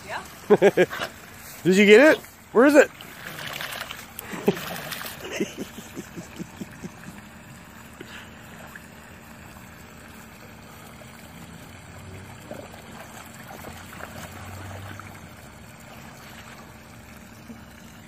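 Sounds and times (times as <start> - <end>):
faint splashes: 0.0 - 18.0
pool water sloshing: 0.0 - 18.0.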